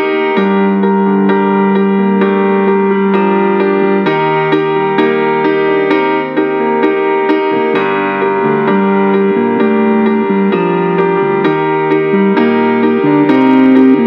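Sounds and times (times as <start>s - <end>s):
electric piano music: 0.0s - 14.0s.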